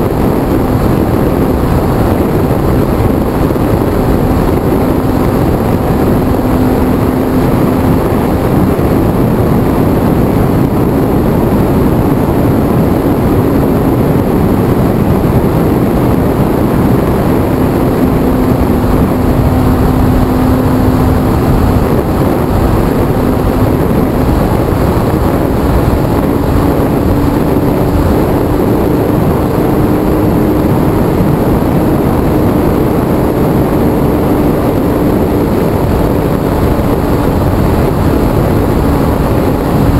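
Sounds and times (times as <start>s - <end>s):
electric motor and propeller humming: 0.0s - 39.9s
loud steady rush of noise: 0.0s - 39.9s.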